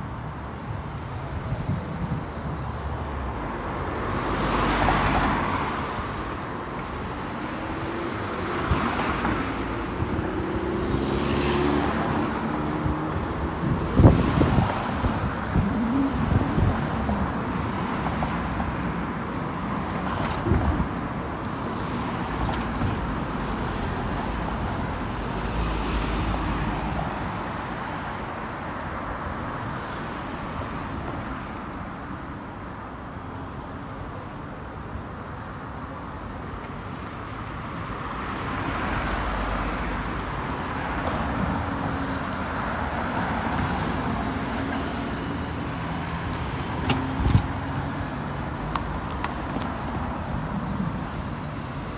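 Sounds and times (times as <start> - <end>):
road noise of passing vehicles: 0.0 - 51.9.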